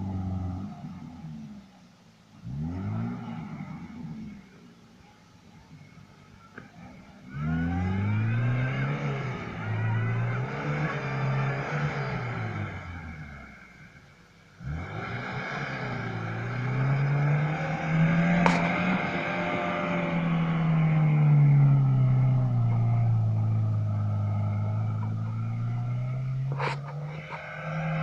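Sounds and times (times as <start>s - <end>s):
car engine revving: 0.0s - 5.2s, 5.8s - 28.0s.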